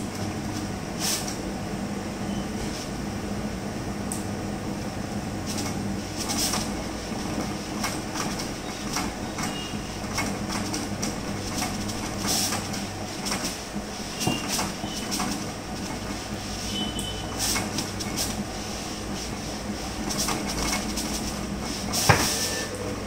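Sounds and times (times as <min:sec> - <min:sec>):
printer motor hum: 0:00.0 - 0:23.0.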